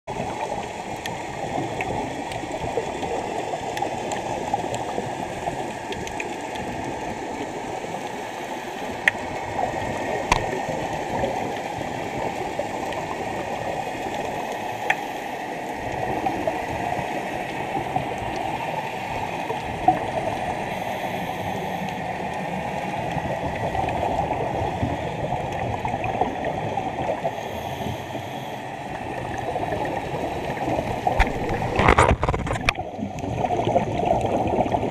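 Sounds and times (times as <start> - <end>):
exhaled bubbles: 0.1 - 34.9
underwater rushing: 0.1 - 34.9.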